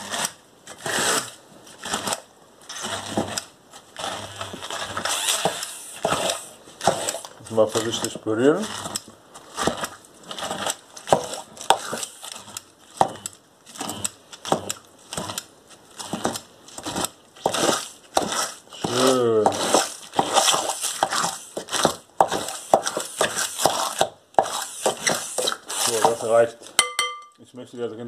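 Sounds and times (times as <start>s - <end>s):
immersion blender chopping: 0.0s - 26.4s.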